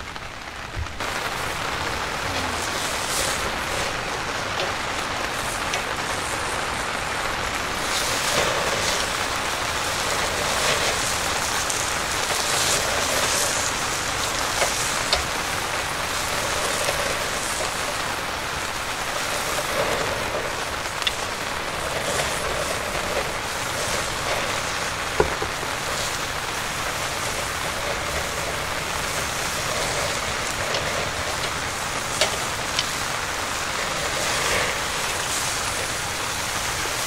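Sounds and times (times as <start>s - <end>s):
heavy rain: 0.0s - 37.0s
meat sizzling on a grill: 0.0s - 37.0s.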